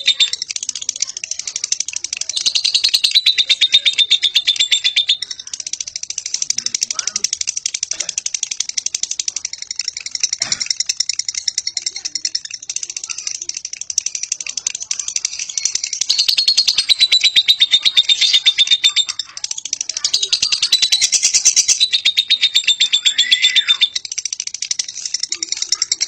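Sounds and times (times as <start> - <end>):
lovebird chattering trill: 0.0 - 26.0.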